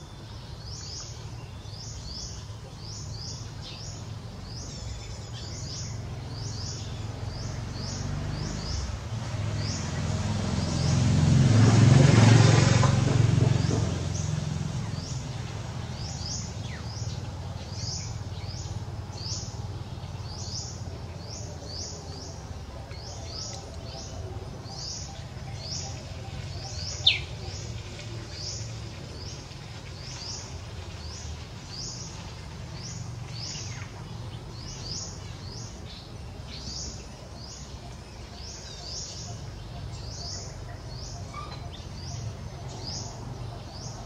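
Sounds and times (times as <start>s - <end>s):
small birds chirping: 0.0s - 11.0s, 13.6s - 44.0s.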